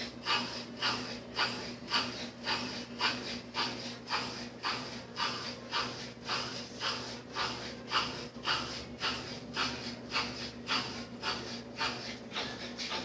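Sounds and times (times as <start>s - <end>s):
drain pump running: 0.0s - 13.0s
motor humming with rhythmic rasp: 0.0s - 13.0s.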